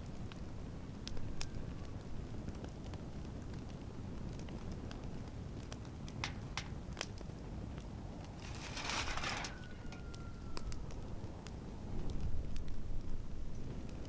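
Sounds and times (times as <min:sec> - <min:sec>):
campfire crackling and popping: 0:02.2 - 0:14.0.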